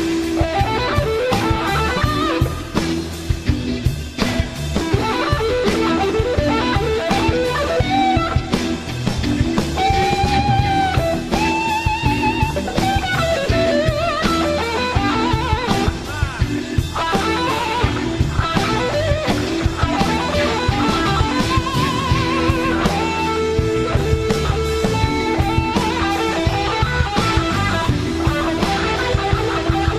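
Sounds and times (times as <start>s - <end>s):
bass and drums: 0.0s - 29.9s
electric guitar solo: 0.0s - 29.9s.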